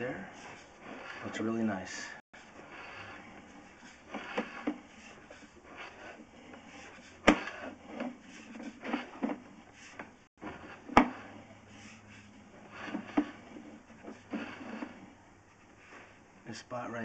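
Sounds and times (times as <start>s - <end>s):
cable rubbing and knocking: 0.0s - 1.6s, 2.4s - 16.2s.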